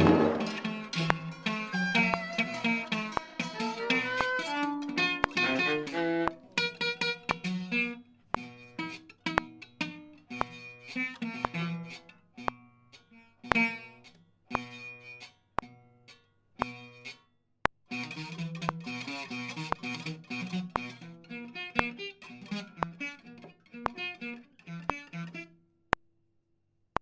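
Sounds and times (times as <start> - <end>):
plucked string instrument: 0.0 - 17.2, 17.9 - 25.5.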